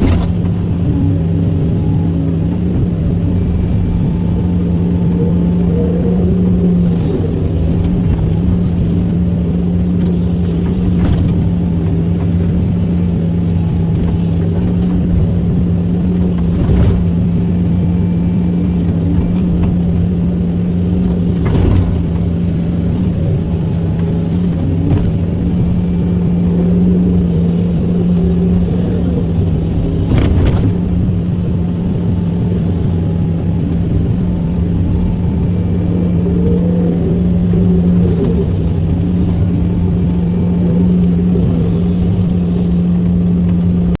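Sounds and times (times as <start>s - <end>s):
excavator diesel engine humming: 0.0s - 44.0s.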